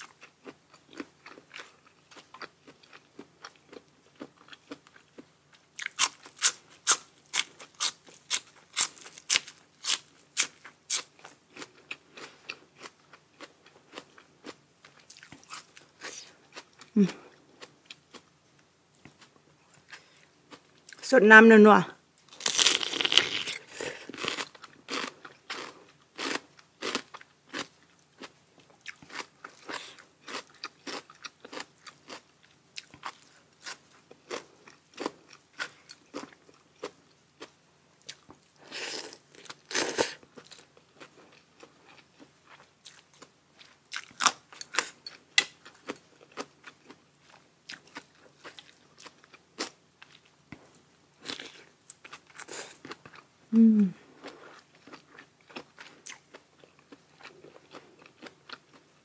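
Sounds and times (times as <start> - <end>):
person chewing crunchy food: 0.0 - 21.0, 22.3 - 59.0.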